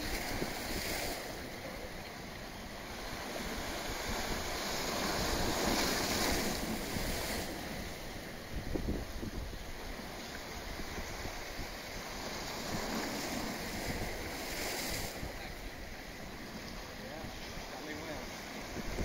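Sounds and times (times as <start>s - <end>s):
wind on microphone: 0.0s - 2.1s, 2.8s - 19.0s
small waves washing: 0.0s - 19.0s.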